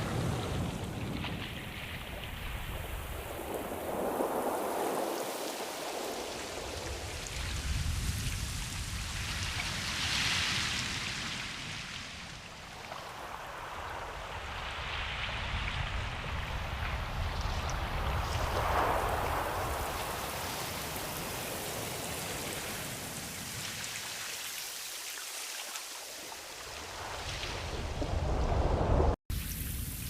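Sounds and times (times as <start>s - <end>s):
ocean waves washing: 0.0s - 30.0s.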